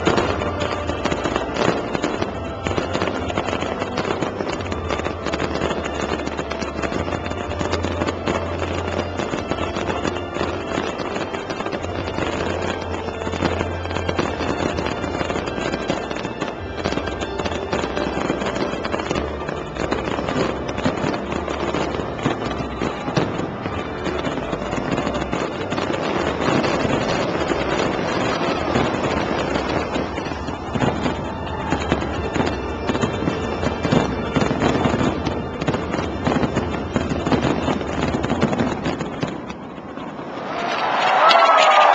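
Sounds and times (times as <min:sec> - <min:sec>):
music playing: 0:00.0 - 0:40.2
fireworks bangs and crackles: 0:00.0 - 0:41.9.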